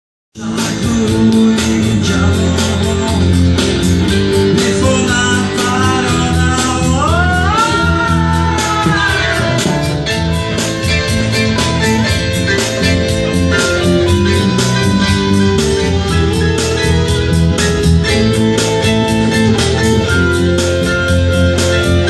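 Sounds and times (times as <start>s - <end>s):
band music with guitar: 0.4s - 22.0s
high melodic line sliding up: 0.8s - 22.0s.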